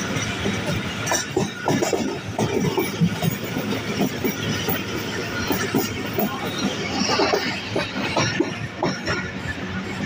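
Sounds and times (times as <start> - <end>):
train clatter: 0.0 - 10.0
train wheels rumbling on rails: 0.0 - 10.0.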